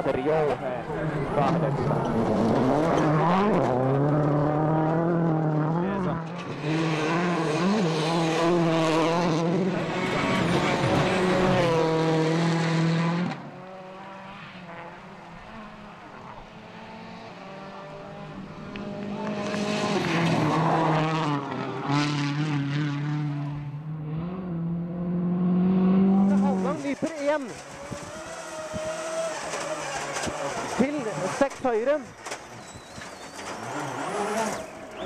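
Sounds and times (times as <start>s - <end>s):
rally car engine at high revs: 0.0s - 35.0s.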